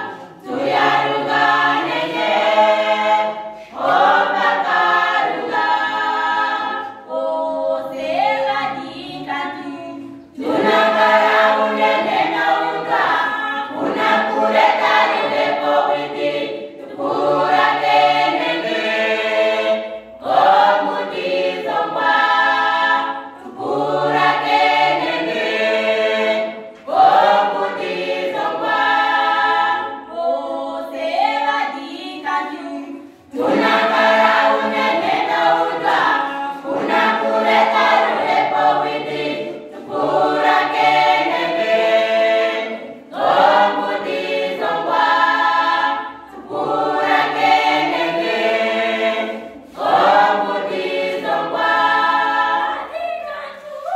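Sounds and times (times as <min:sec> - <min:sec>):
choir singing a cappella: 0:00.0 - 0:53.9.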